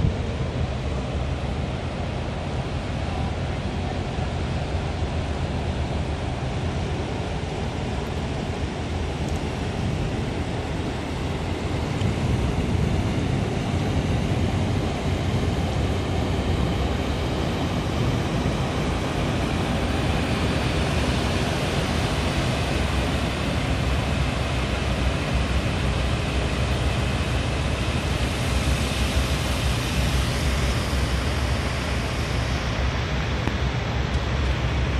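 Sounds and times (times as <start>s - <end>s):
churning water rushing: 0.0s - 34.9s
ferry engines rumbling: 0.0s - 34.9s.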